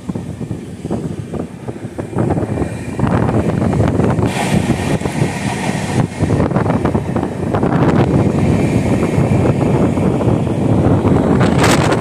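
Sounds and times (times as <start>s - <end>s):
passenger train running on track: 0.0s - 12.0s
wind buffeting microphone: 0.0s - 12.0s.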